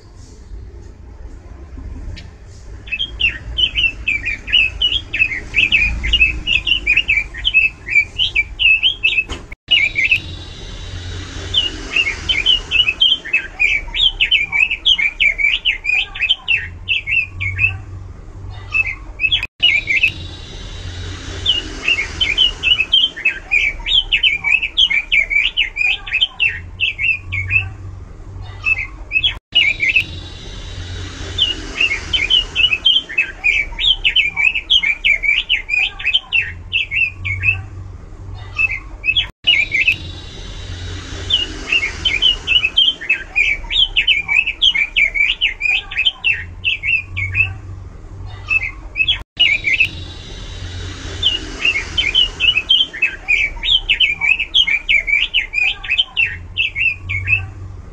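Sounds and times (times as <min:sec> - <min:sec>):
bird warbling song: 0:02.8 - 0:17.8, 0:18.7 - 0:27.8, 0:28.6 - 0:37.7, 0:38.5 - 0:47.6, 0:48.5 - 0:57.6.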